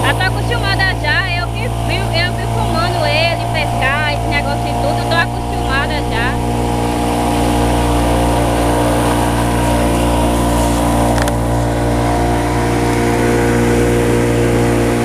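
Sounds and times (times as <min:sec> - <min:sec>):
motorboat engine running: 0:00.0 - 0:15.0
water rushing against hull: 0:00.0 - 0:15.0.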